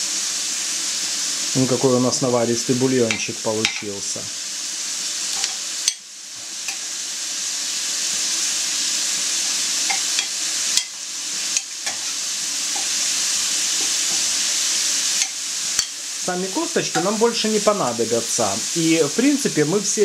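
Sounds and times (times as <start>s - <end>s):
onion sizzling in frying pan: 0.0s - 20.0s.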